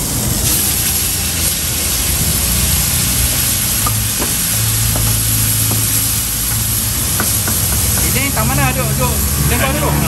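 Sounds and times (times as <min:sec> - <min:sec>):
noodles sizzling in wok: 0:00.0 - 0:10.0.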